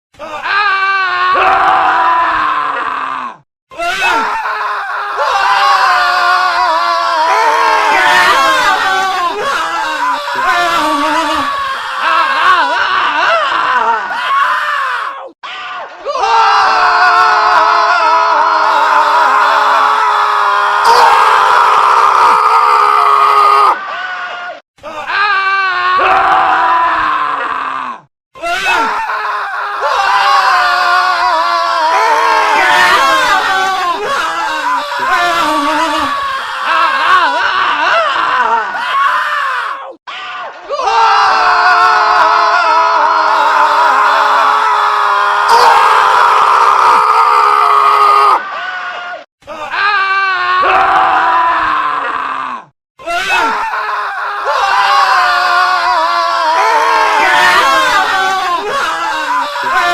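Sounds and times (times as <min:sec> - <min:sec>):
men screaming: 0:00.2 - 0:59.9.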